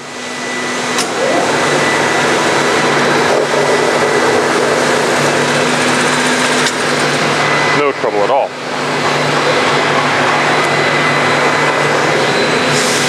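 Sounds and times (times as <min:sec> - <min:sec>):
bandsaw motor hum: 0:00.0 - 0:13.0
dust collector rushing air: 0:00.0 - 0:13.0.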